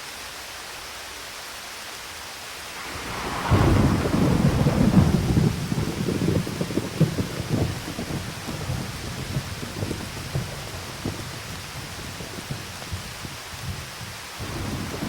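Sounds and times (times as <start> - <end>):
steady rain: 0.0 - 15.0
thunder clap and rumble: 2.8 - 15.0.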